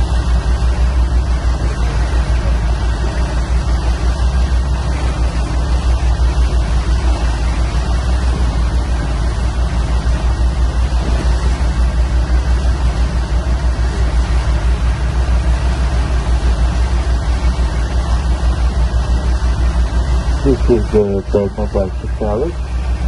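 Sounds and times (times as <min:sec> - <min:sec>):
boat engine throbbing: 0:00.0 - 0:23.0
churning wake water: 0:00.0 - 0:23.0.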